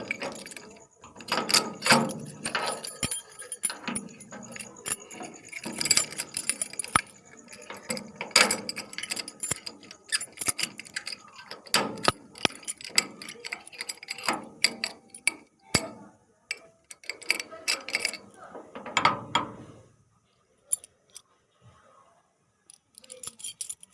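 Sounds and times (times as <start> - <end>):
keys jangling: 0.0 - 19.6, 20.7 - 21.2, 22.7 - 23.9
lock clicking and rattling: 0.0 - 19.9, 20.6 - 21.4, 22.7 - 23.9.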